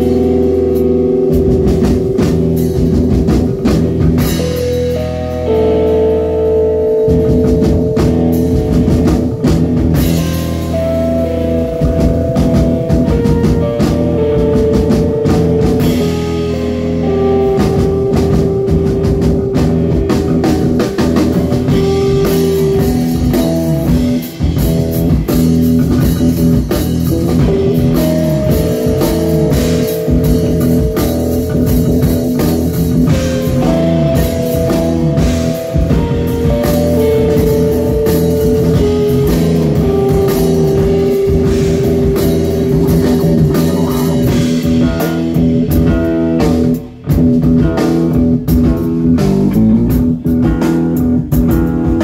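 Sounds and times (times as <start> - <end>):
live rock band playing: 0.0 - 52.0.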